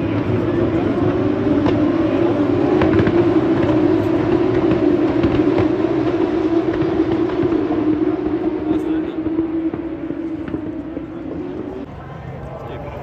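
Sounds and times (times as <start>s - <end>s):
race cars passing at high revs: 0.0s - 13.0s.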